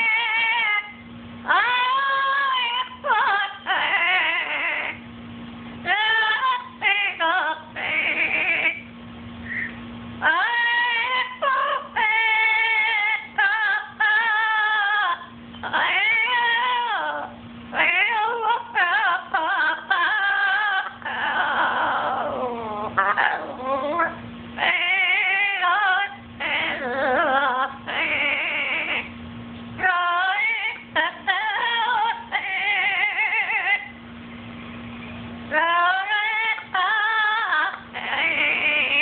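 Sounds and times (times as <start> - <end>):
parrot singing: 0.0 - 5.1, 5.8 - 29.2, 29.8 - 34.0, 35.5 - 39.0
faint low hum: 0.0 - 39.0.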